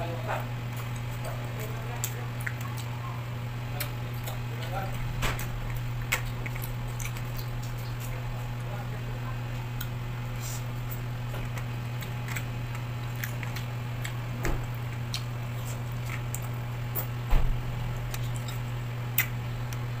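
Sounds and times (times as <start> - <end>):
steady low hum: 0.0 - 20.0
wet chewing mouth sounds: 0.4 - 20.0.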